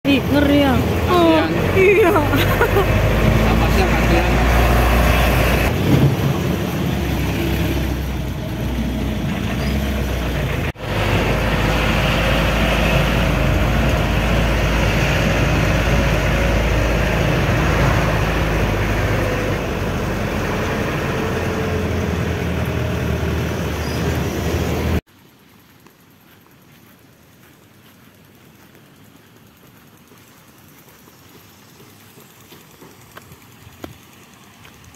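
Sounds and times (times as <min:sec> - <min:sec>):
van engine and road noise: 0:00.0 - 0:25.1, 0:25.8 - 0:34.9.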